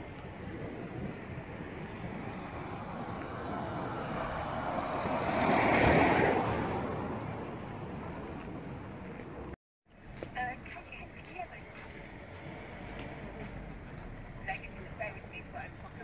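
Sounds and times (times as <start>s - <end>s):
car passing by: 0.0s - 9.6s, 11.5s - 16.0s
background traffic: 0.0s - 16.0s.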